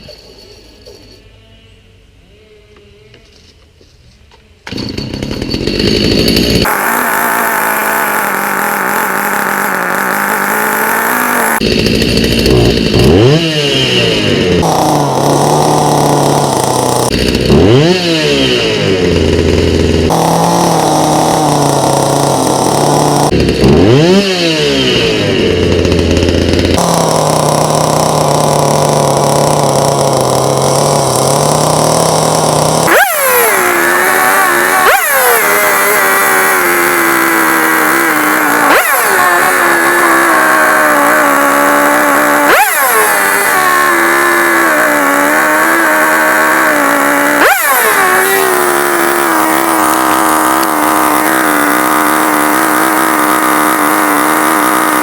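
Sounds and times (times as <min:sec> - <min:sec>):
chainsaw engine revving: 0:04.7 - 0:55.0.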